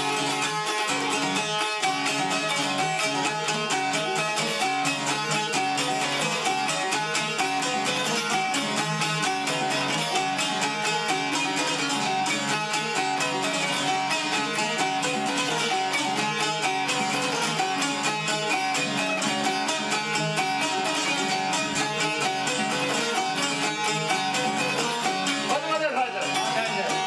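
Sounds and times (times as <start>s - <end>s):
plucked lutes playing a tune: 0.0s - 27.0s.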